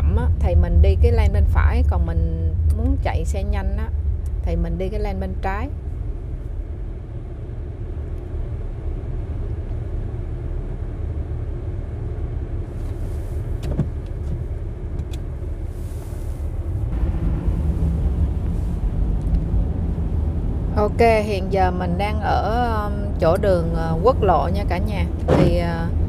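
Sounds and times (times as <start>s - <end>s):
car engine rumble: 0.0s - 26.0s
road noise inside car: 0.0s - 26.0s.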